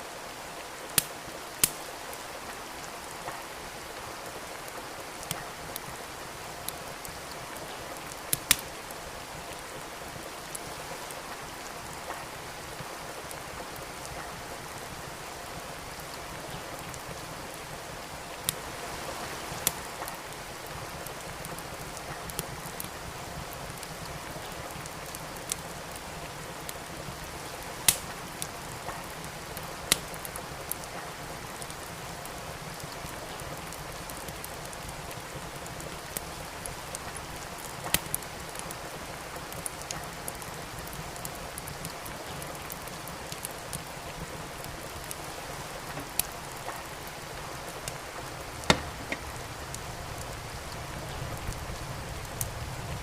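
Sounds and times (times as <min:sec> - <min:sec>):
steady rain: 0:00.0 - 0:53.0
wood fire crackling: 0:00.0 - 0:53.0.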